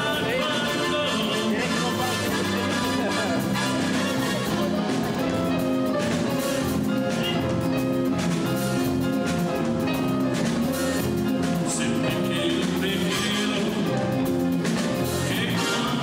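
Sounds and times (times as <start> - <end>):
dance music with drums: 0.0 - 16.0.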